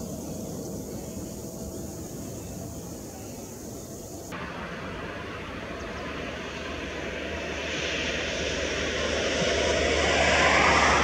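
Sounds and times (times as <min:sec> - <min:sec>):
jet airliner engine noise: 0:00.0 - 0:11.0.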